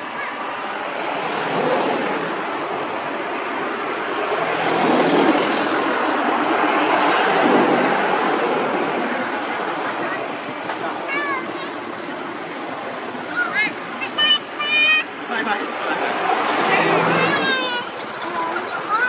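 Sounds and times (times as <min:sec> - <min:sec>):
passing motor vehicle: 0:00.0 - 0:19.0.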